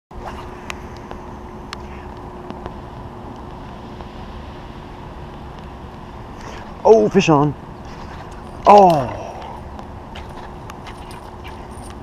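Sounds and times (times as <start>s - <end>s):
faint steady hum: 0.1s - 12.0s
rain and wind on microphone: 0.1s - 12.0s.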